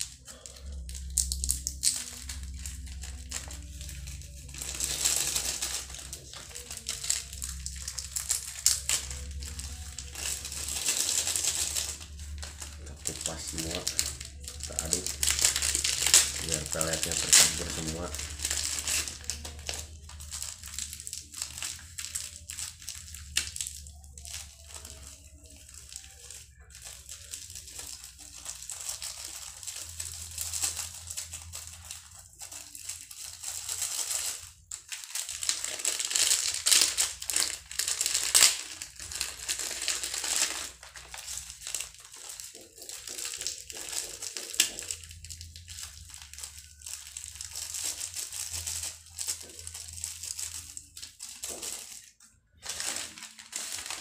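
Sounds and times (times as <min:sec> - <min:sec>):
gritty rustle of stirred pellets: 0:00.0 - 0:52.0
plastic bag crinkling: 0:00.0 - 0:54.0.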